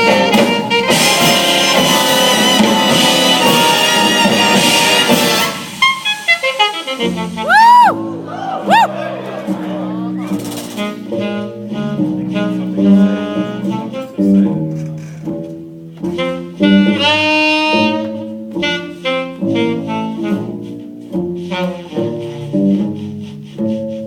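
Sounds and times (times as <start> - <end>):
jazz saxophone solo: 0.0 - 8.1, 10.6 - 15.4, 16.0 - 24.0
jazz band accompaniment: 0.0 - 24.0.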